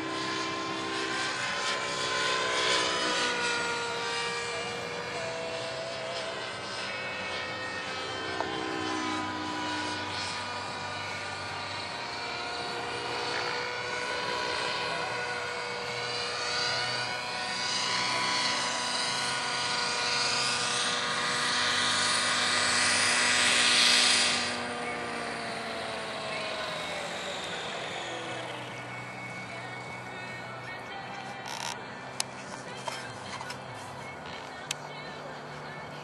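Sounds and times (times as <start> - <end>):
rc helicopter rotor whine: 0.0 - 36.0
rotor blades whooshing: 0.0 - 36.0.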